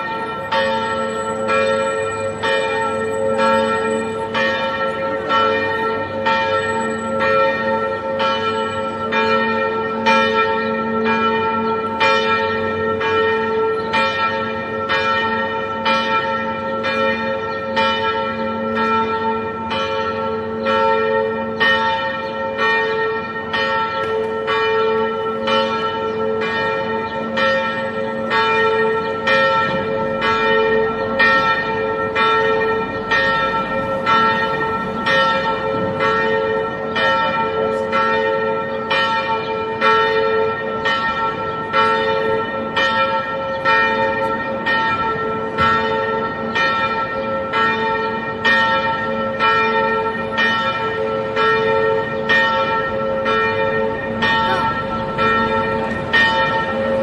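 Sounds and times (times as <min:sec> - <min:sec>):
church bell tolling: 0:00.0 - 0:57.0.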